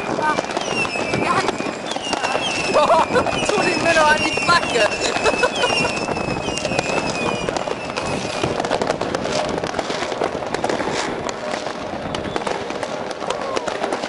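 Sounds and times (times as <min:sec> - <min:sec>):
fireworks bangs and crackling: 0:00.0 - 0:14.0
high firework whistle: 0:00.0 - 0:14.0.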